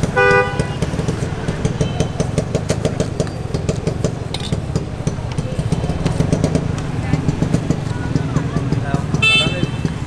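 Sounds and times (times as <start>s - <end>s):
small engine rumbling: 0.0s - 10.0s.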